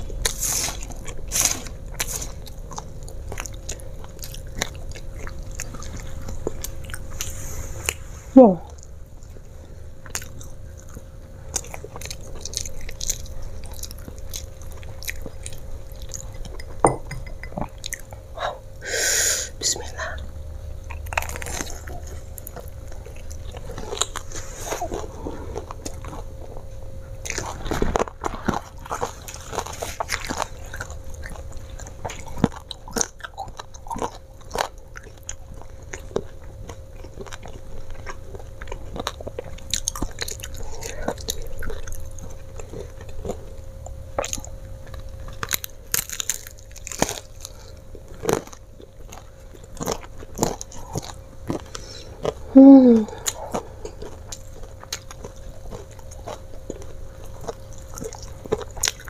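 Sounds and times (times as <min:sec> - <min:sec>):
crunching fried chicken: 0:00.0 - 0:08.0, 0:08.8 - 0:16.6, 0:20.8 - 0:59.0
chewing: 0:00.0 - 0:08.1, 0:08.7 - 0:18.6, 0:20.8 - 0:59.0.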